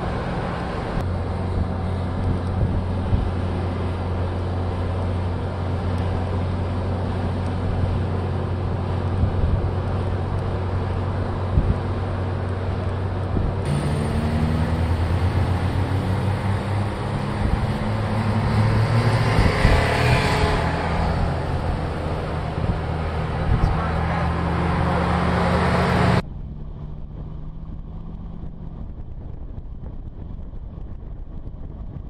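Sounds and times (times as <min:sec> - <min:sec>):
car engine drone: 0:00.0 - 0:32.0
tyre and road noise: 0:00.0 - 0:32.0
wind: 0:00.0 - 0:32.0.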